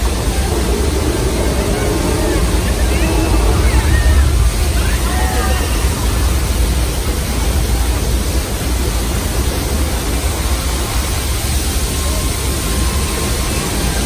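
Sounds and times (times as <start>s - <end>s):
deep rumble: 0.0s - 14.0s
torrent of water crashing: 0.0s - 14.0s.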